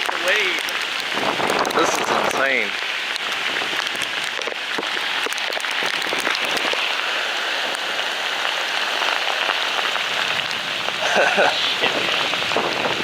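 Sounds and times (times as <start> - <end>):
heavy rain falling: 0.0 - 13.0
raindrops splattering near microphone: 0.0 - 13.0.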